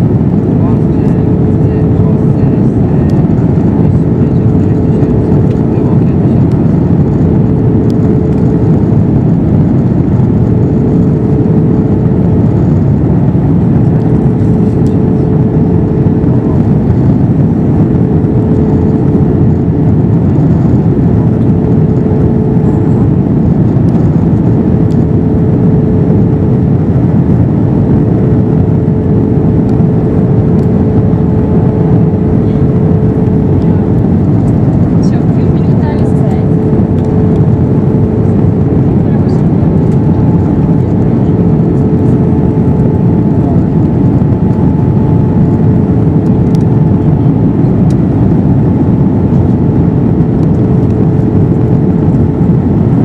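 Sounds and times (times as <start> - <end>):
airliner cabin drone: 0.0 - 53.0
steady hum: 0.0 - 53.0.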